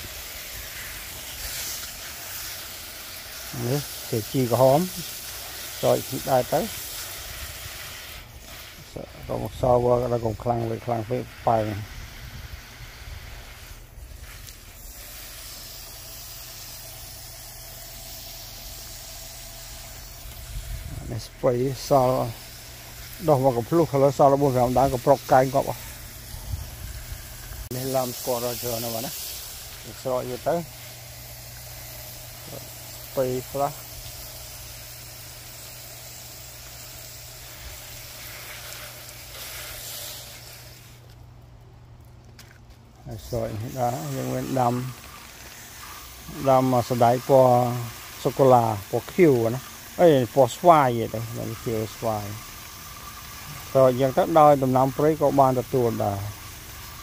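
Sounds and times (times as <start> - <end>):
hose nozzle spraying water: 0.0 - 41.4, 42.0 - 57.0.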